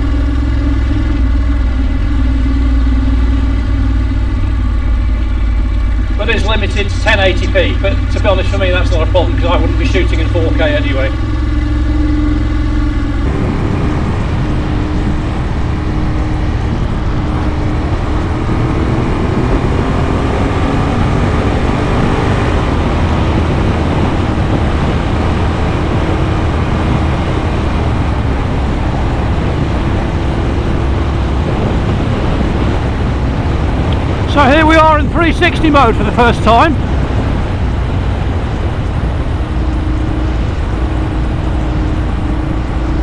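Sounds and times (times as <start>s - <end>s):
motorcycle engine running: 0.0s - 43.0s
wind rush over microphone: 0.0s - 43.0s.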